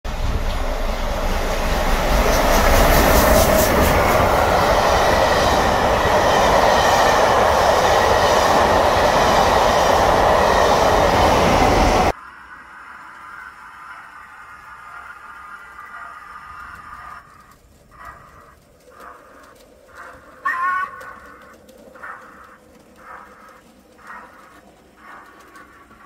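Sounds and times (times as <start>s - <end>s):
train rumbling on rails: 0.0s - 26.0s
rail clicks: 0.1s - 26.0s.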